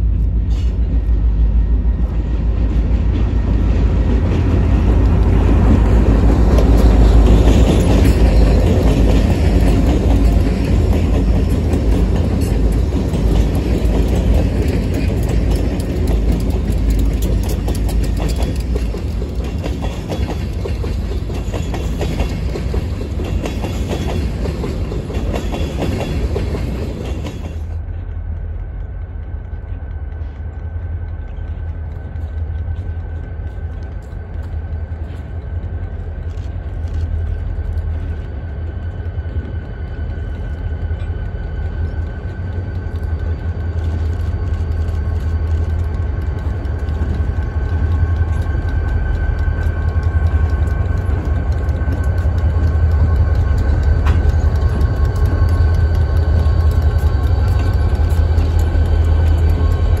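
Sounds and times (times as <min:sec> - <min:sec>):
diesel locomotive engine rumble: 0:00.0 - 1:00.0
train wheels clattering over rails: 0:00.1 - 1:00.0.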